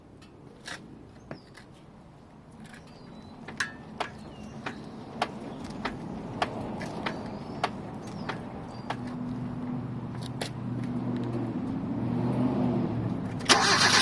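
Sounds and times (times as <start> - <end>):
low steady car hum: 0.0 - 14.0.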